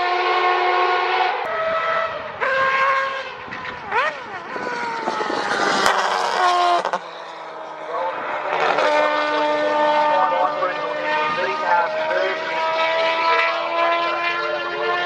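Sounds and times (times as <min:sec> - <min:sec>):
race car engine high revs: 0:01.5 - 0:15.0.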